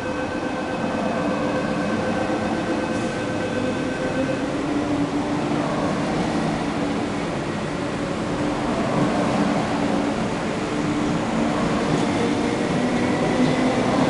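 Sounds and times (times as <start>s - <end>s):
train cars rolling on rails: 0.0s - 14.0s.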